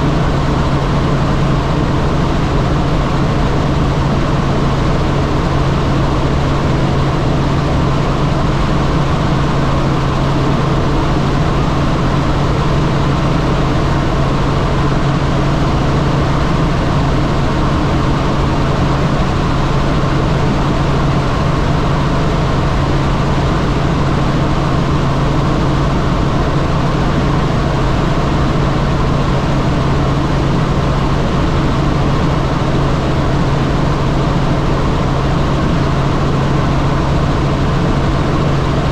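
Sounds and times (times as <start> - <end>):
helicopter rotor and turbine: 0.0 - 38.9.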